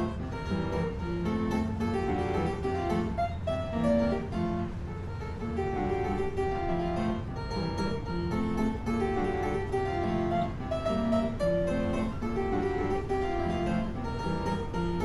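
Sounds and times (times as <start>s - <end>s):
harpsichord-like keyboard notes: 0.0s - 15.0s.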